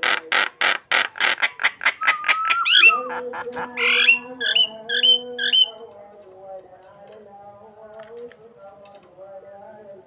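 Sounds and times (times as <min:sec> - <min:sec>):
starling singing: 0:00.0 - 0:10.0.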